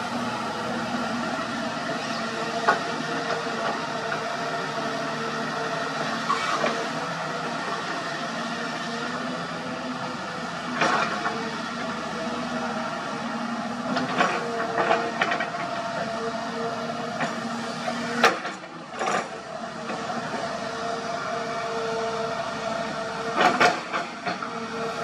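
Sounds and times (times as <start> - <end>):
excavator engine and hydraulics: 0.0 - 25.0.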